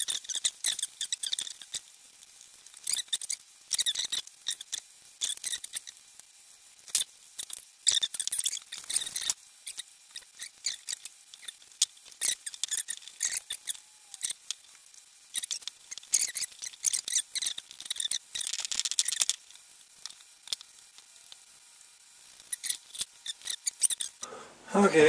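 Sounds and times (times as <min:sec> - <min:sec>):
plastic film crinkling: 0:00.0 - 0:24.2.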